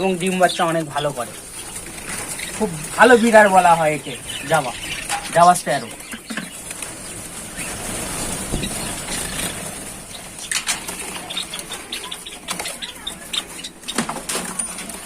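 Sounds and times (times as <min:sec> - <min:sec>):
rustling handling noise: 0:00.0 - 0:15.0
small birds chirping: 0:00.0 - 0:15.0.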